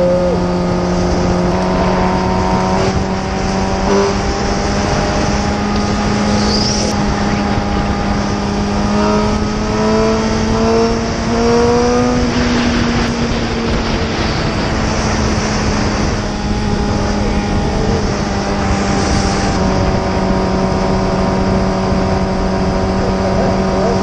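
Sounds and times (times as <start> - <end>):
motorcycle engine cruising: 0.0 - 24.0
wind rush on microphone: 0.0 - 24.0.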